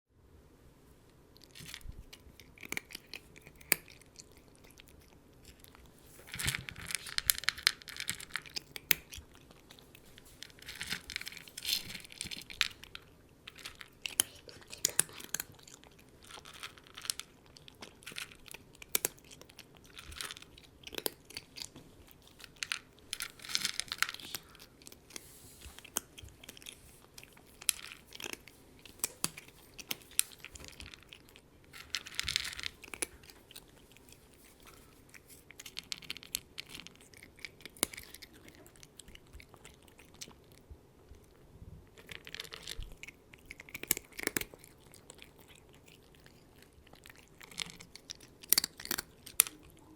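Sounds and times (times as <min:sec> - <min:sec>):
cat chewing crunchy food: 0:01.3 - 0:49.9.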